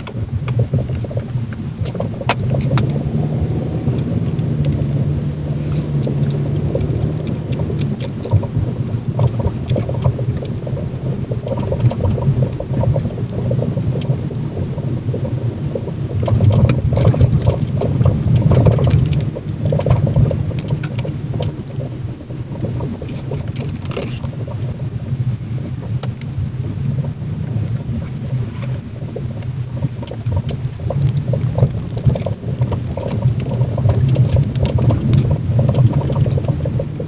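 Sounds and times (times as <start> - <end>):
suspension mount knocking and rattling: 0.0 - 24.7, 28.6 - 37.0
car driving rumble: 0.0 - 37.0.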